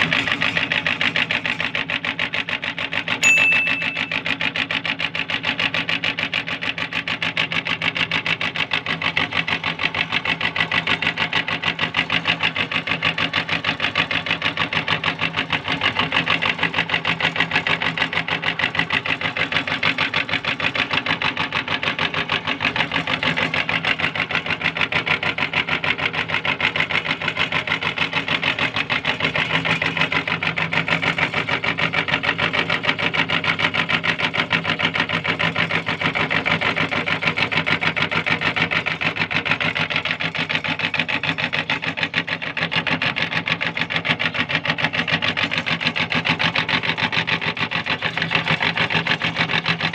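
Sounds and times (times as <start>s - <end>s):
meat grinder clattering: 0.0s - 49.9s.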